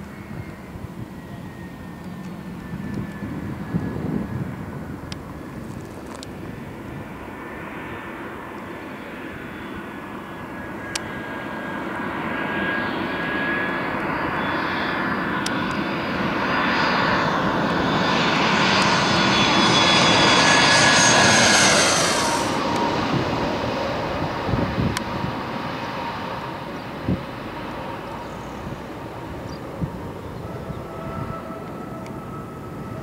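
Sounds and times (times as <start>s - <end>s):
jet airliner engines taxiing: 0.0s - 33.0s.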